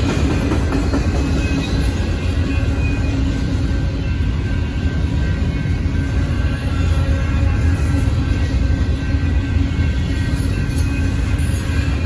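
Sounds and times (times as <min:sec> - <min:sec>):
crossing bells ringing: 0:00.0 - 0:12.0
train wheels rumbling on rails: 0:00.0 - 0:12.0.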